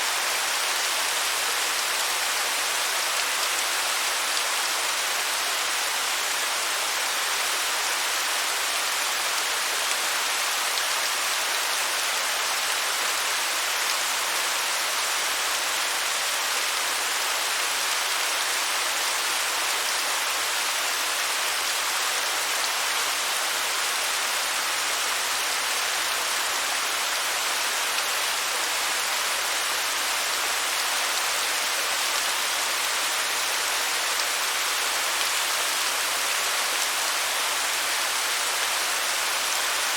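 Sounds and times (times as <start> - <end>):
waterfall hiss: 0.0 - 39.9.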